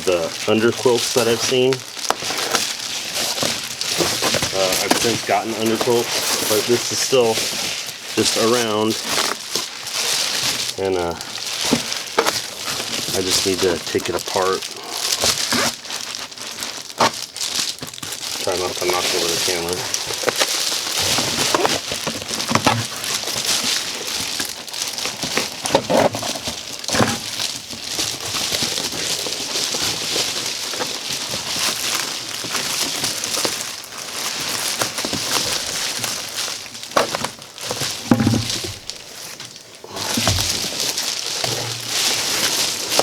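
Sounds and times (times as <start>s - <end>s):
foil insulation crinkling: 0.0s - 43.0s
sharp crackles and knocks: 0.0s - 43.0s.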